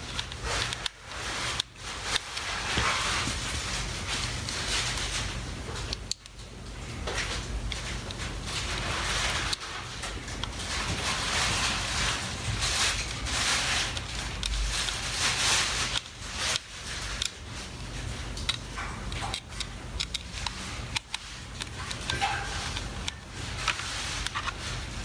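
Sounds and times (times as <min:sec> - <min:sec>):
plastic rubbing and scraping: 0:00.0 - 0:06.1, 0:07.2 - 0:25.0.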